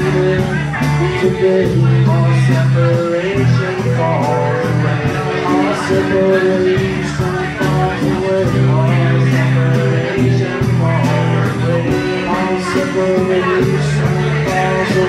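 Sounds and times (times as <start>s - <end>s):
acoustic guitar: 0.0s - 15.0s
drum kit beat: 0.0s - 15.0s.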